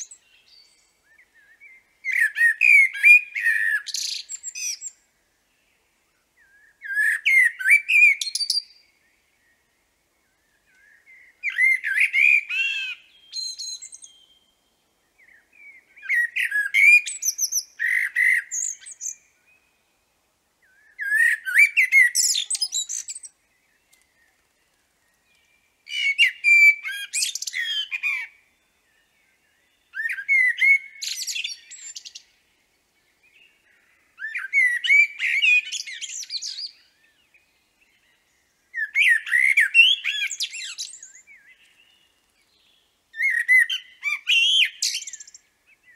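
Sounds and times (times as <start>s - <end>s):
blackbird singing: 0.0s - 5.0s, 5.6s - 20.0s, 20.6s - 45.9s.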